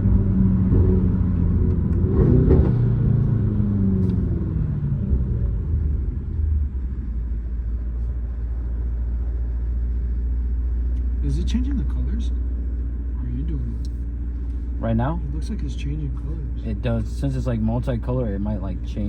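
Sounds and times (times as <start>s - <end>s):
car engine heard from inside: 0.0s - 19.0s.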